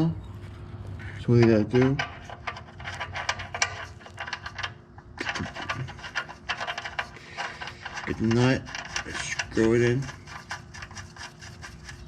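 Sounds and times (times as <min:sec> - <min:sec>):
faint steady hum: 0:00.0 - 0:12.0
small metal parts clicking and rattling: 0:01.4 - 0:12.0.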